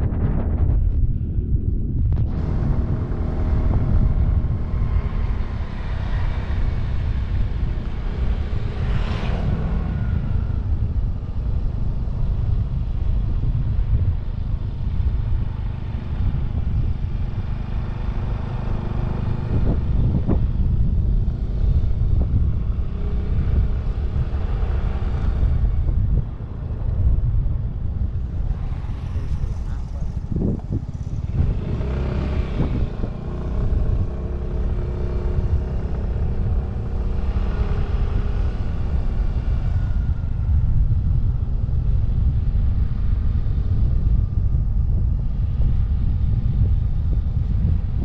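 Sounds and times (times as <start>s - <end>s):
motorcycle engine running: 0.0s - 48.0s
wind rumble on microphone: 0.0s - 48.0s.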